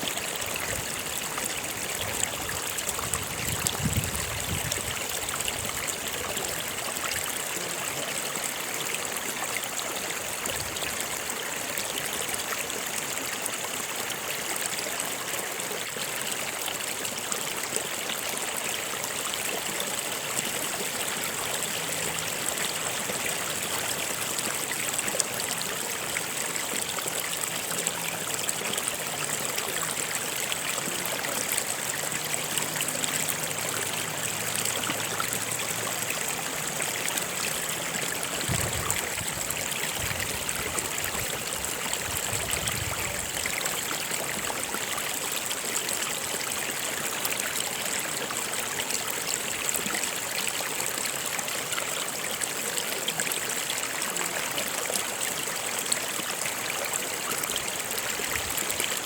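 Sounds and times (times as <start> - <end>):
running water stream: 0.0 - 59.0.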